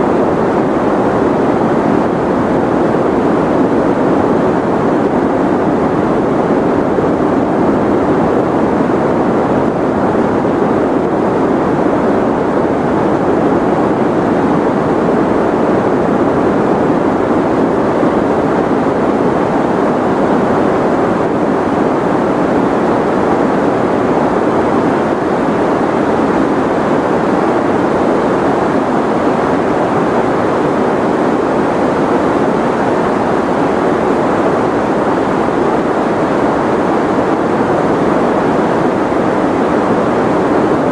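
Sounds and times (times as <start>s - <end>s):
white noise: 0.0s - 40.9s.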